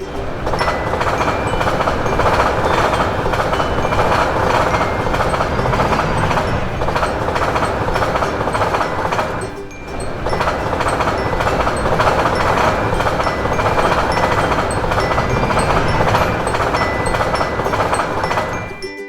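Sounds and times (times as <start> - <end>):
train wheels on track: 0.0 - 19.0.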